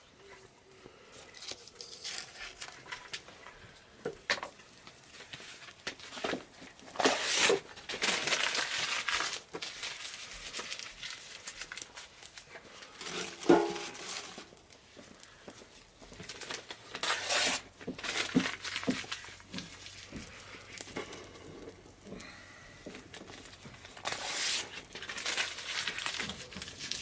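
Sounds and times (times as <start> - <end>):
material crinkling and rustling: 1.3 - 27.0.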